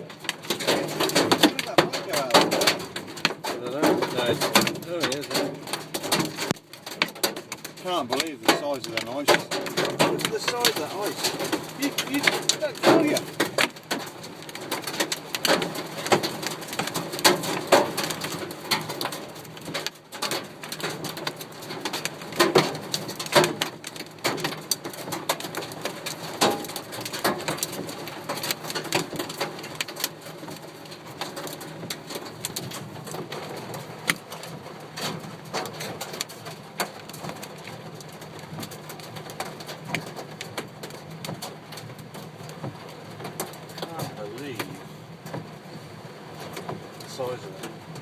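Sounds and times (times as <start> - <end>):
hailstones knocking on metal roof: 0.0 - 48.0
steady patter: 0.0 - 48.0.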